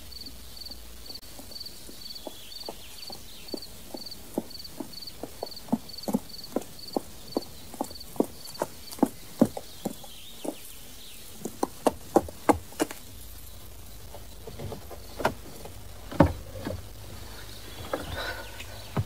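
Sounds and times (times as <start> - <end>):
horse hooves clopping: 0.0 - 19.0.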